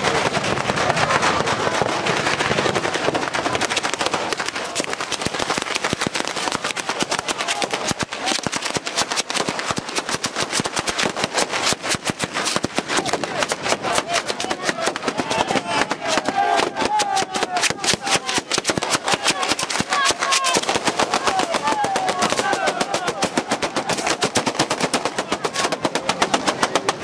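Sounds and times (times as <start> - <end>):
firecrackers crackling: 0.0 - 27.0.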